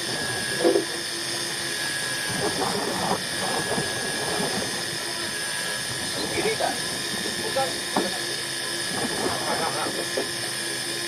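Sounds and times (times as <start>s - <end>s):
high whine: 0.0s - 11.0s
motor drone: 0.0s - 11.0s.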